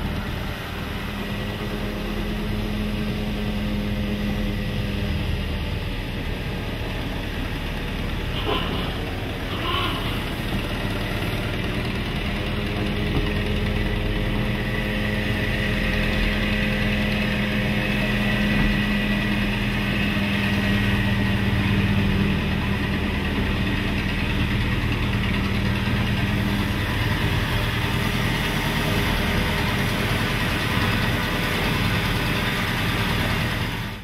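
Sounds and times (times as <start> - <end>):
diesel locomotive engine running: 0.0 - 34.0.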